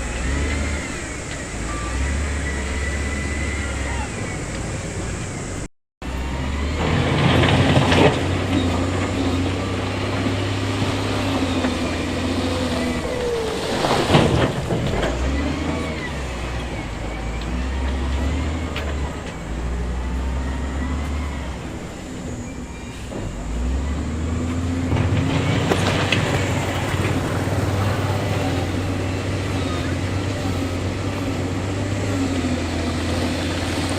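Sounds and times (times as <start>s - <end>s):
heavy machinery diesel engines: 0.0s - 33.9s.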